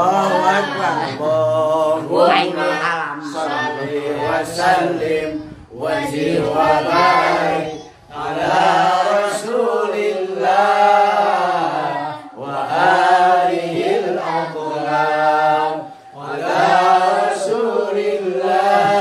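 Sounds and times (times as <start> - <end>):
elderly man reciting melodically: 0.0 - 19.0.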